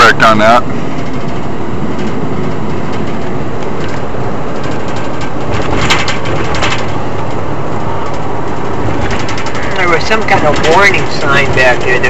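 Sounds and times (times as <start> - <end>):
vehicle road rumble from inside: 0.0 - 12.0
light clicks and rattles: 0.9 - 12.0.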